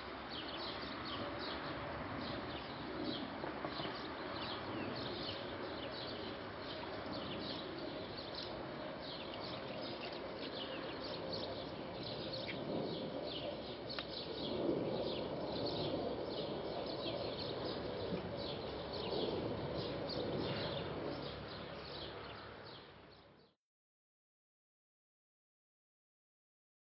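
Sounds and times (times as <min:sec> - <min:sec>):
outdoor background hiss: 0:00.0 - 0:23.5
small birds chirping: 0:00.3 - 0:23.6.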